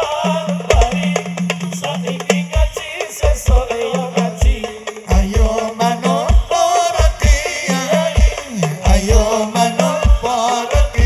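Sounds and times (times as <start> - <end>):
frame drum beats: 0.0 - 11.0
man singing into a microphone: 0.0 - 11.0.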